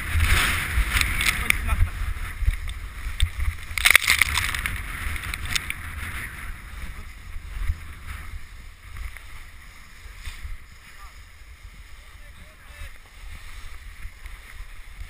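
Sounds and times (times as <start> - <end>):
sled runners scraping over snow: 0.0 - 15.0
wind buffeting microphone: 0.0 - 15.0.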